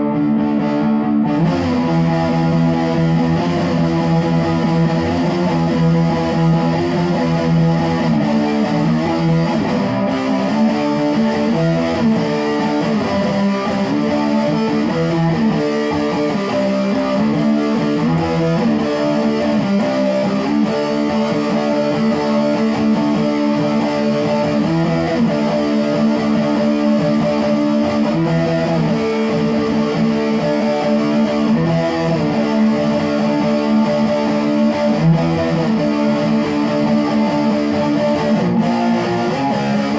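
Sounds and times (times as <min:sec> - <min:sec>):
guitar playing chords: 0:00.0 - 0:39.9.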